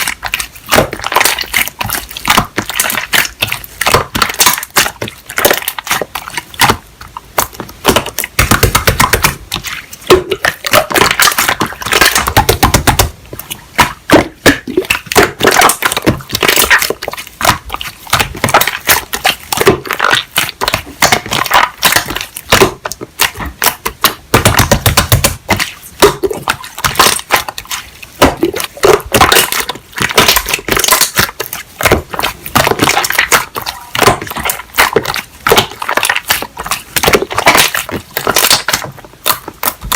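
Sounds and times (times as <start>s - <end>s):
hands kneading slime: 0.0s - 39.9s.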